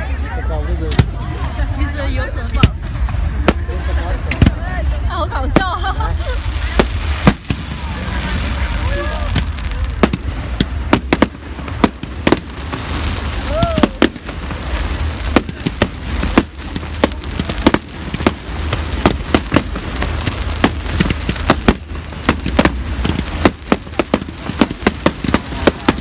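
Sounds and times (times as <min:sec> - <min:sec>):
fireworks bangs and crackles: 0:00.0 - 0:26.0
low rumble: 0:00.0 - 0:26.0.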